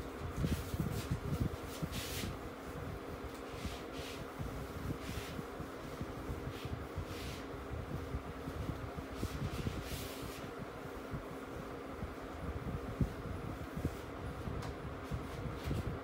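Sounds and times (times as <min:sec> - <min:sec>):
fan hum: 0:00.0 - 0:16.0
whiteboard wiping swishes: 0:00.3 - 0:16.0.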